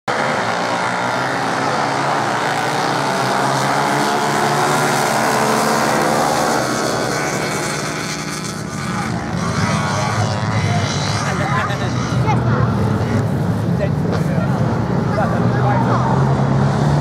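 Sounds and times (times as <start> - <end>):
racing motorcycles at high revs: 0.1 - 17.0.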